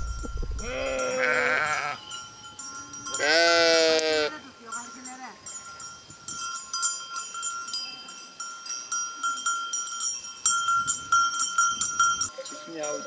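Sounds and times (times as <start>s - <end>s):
livestock bells clanking: 0.0s - 13.0s.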